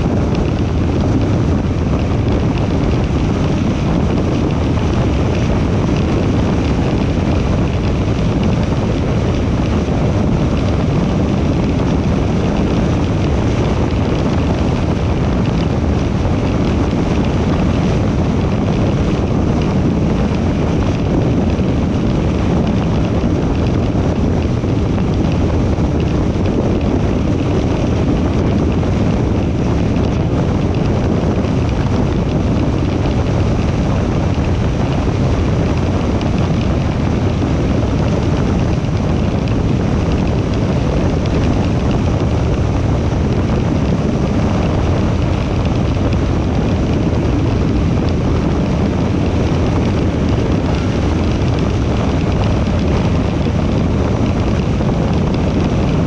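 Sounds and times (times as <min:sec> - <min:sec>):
tyre roar on asphalt: 0:00.0 - 0:56.0
wind rushing over microphone: 0:00.0 - 0:56.0.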